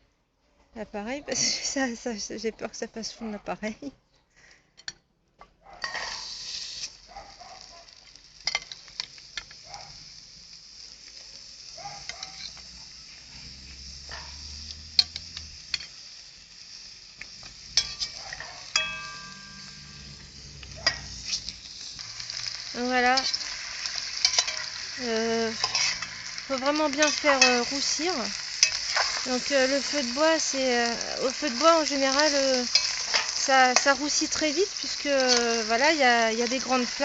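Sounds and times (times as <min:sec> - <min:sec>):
meat sizzling in hot oil: 0:05.8 - 0:37.0.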